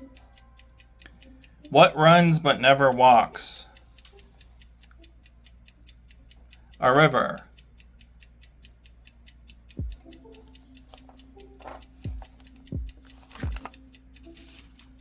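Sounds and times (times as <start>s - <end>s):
clock-like ticking: 0.0s - 15.0s.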